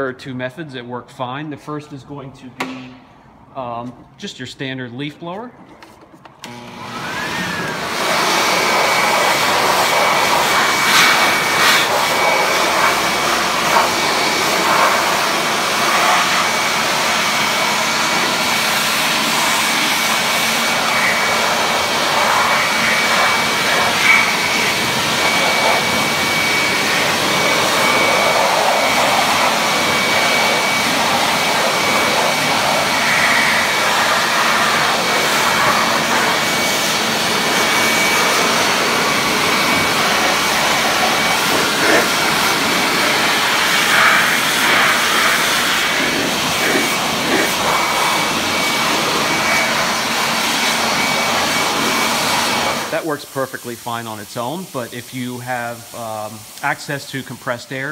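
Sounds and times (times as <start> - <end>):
leaf blower rushing air: 6.4 - 56.7.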